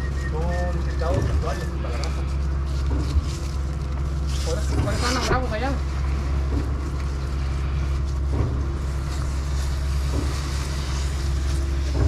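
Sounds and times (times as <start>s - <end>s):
heavy equipment engine droning: 0.0s - 12.0s.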